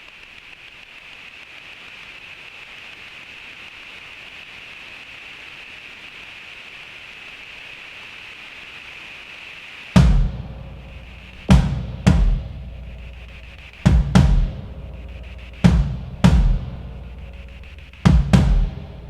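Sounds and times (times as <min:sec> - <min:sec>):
rain-like hiss: 0:00.0 - 0:19.0.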